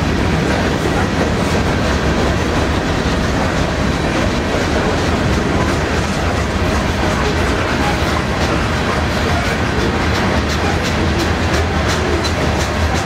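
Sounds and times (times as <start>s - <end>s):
steel wheels clattering on rails: 0.0s - 13.0s
train rolling past: 0.0s - 13.0s.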